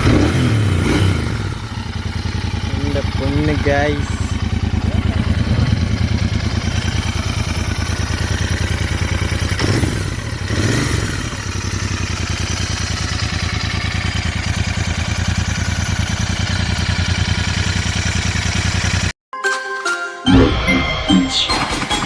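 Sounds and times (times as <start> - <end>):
motorcycle engine idling: 0.0 - 19.1.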